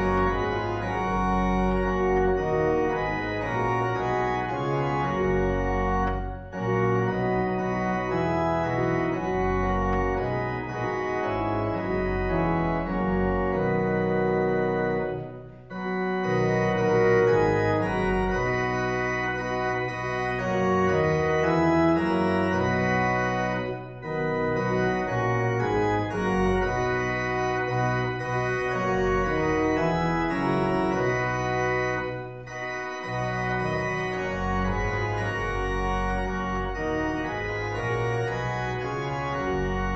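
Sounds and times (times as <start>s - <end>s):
church organ chords: 0.0s - 39.9s.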